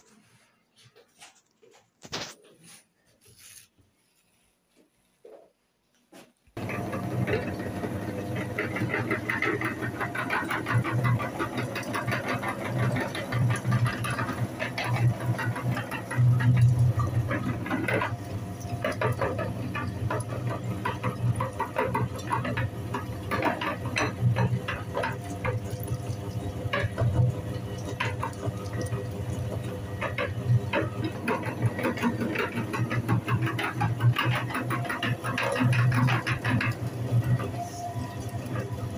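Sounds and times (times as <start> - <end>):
meat grinder motor hum: 6.6 - 38.9.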